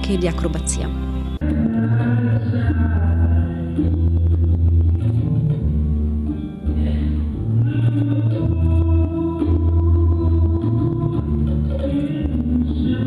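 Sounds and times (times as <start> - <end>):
music with deep bass notes: 0.0 - 13.0.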